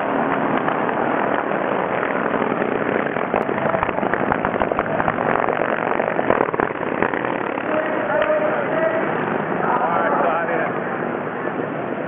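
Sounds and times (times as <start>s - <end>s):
motorcycle engines racing: 0.0s - 12.0s.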